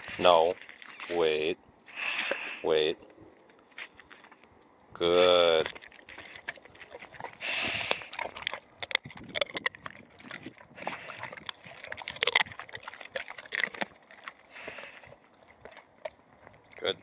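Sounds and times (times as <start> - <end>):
dog crunching a bone: 3.4 - 17.0.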